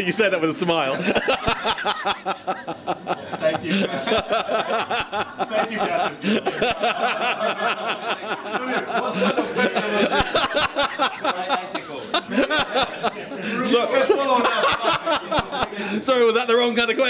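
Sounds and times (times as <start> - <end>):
group of people laughing: 0.7 - 16.0.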